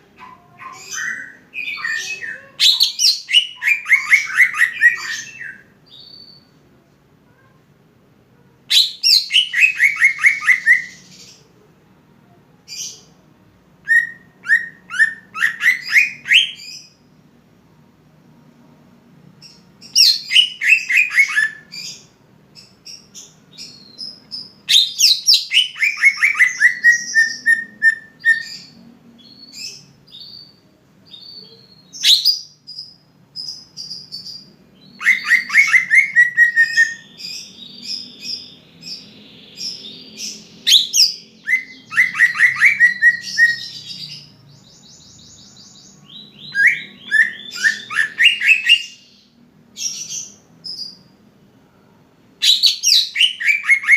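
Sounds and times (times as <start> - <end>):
high bird chirps: 0.2 - 6.5, 8.7 - 11.4, 13.9 - 17.0, 19.5 - 51.1, 52.4 - 53.9.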